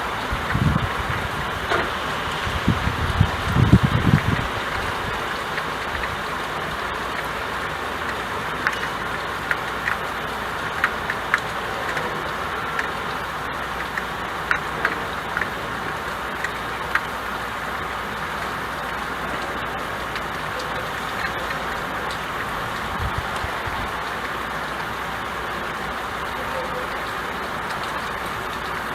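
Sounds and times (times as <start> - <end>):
rain on window glass: 0.0 - 28.9
raindrops ticking on pane: 0.0 - 28.9.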